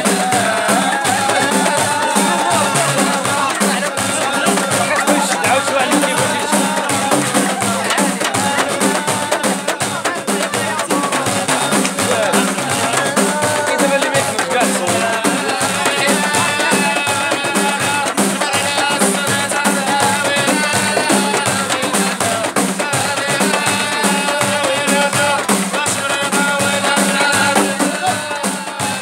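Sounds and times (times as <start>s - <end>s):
frame drums beating: 0.0s - 29.0s
men singing: 0.0s - 29.0s.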